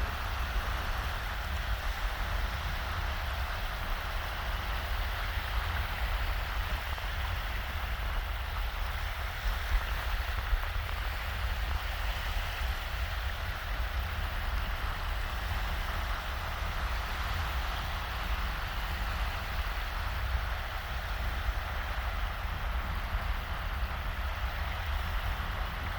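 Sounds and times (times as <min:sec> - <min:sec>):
low wind rumble: 0:00.0 - 0:25.9
waves washing onto sandy beach: 0:00.0 - 0:25.9.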